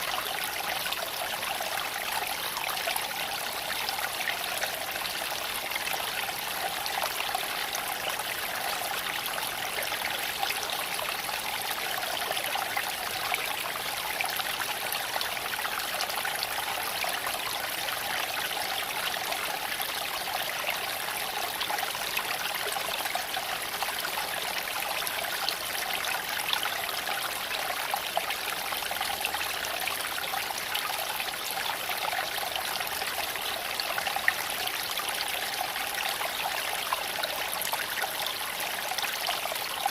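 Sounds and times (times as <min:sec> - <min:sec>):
creek water flowing over stones: 0:00.0 - 0:39.9.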